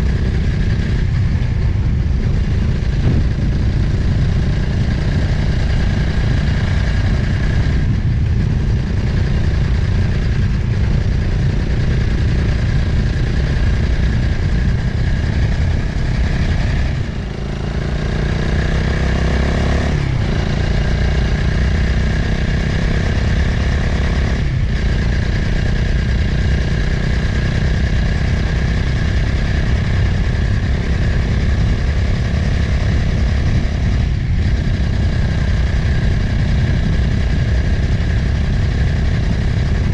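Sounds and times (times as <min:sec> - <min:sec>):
motorcycle engine running: 0:00.0 - 0:39.9
wind over microphone: 0:00.0 - 0:39.9.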